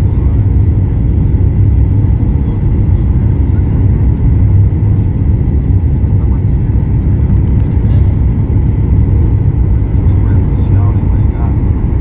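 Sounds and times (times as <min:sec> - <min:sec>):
airliner engines rumbling: 0:00.0 - 0:12.0
faint steady whine: 0:00.0 - 0:12.0.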